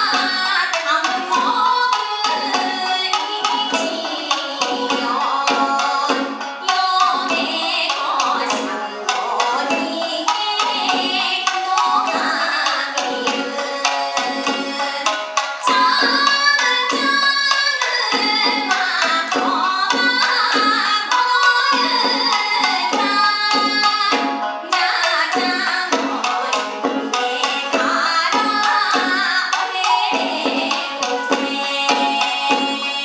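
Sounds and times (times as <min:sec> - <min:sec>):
bamboo flute: 0:00.0 - 0:33.0
drum beaten with sticks: 0:00.0 - 0:33.0
woman singing folk song: 0:00.0 - 0:33.0.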